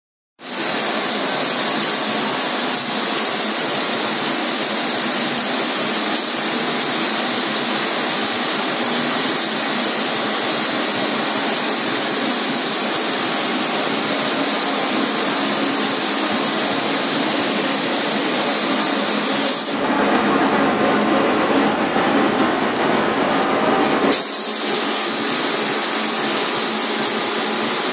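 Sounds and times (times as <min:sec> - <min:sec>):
paint spray gun hissing: 0:00.4 - 0:19.8, 0:24.1 - 0:27.9.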